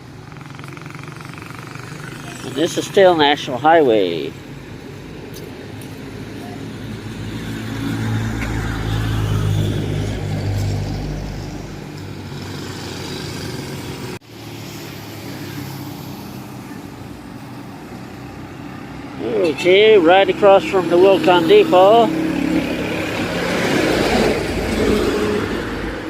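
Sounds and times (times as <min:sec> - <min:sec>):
traffic hum: 0:00.0 - 0:26.0.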